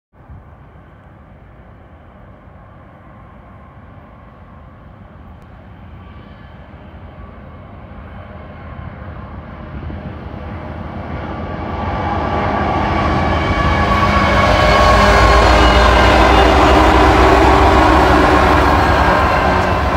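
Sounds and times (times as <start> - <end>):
diesel locomotive engine rumble: 0.2 - 19.9.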